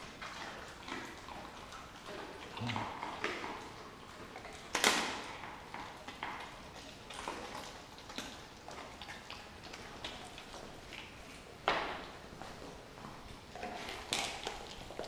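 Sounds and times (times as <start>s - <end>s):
dogs chewing and tearing meat: 0.0s - 15.0s.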